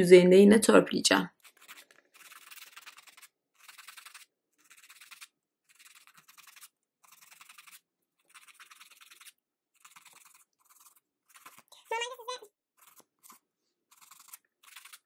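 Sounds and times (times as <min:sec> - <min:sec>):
nail file rasping: 0:01.3 - 0:15.0.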